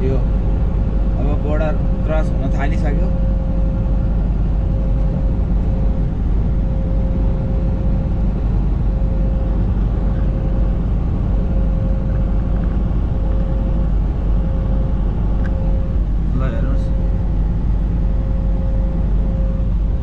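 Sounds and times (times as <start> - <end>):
truck engine rumble: 0.0 - 20.0
faint steady tone: 0.8 - 20.0.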